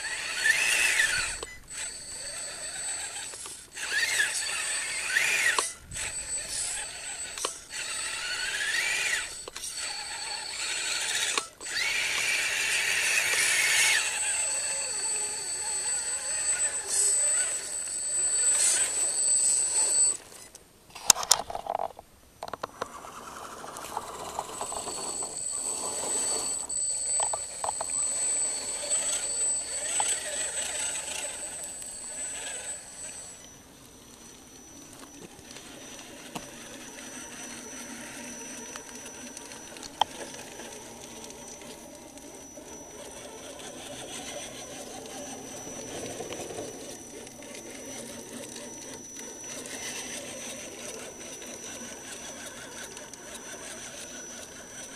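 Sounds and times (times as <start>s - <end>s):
electric motor whining: 0.0s - 20.6s, 22.6s - 54.9s.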